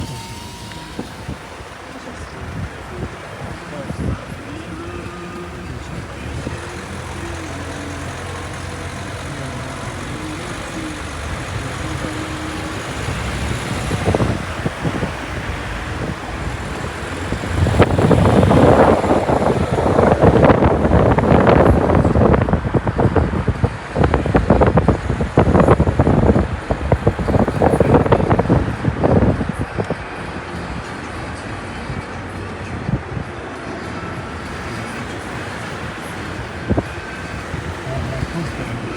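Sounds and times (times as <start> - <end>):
choppy irregular noise: 0.0 - 38.9
traffic noise: 0.0 - 38.9
vehicle engine hum: 0.0 - 38.9.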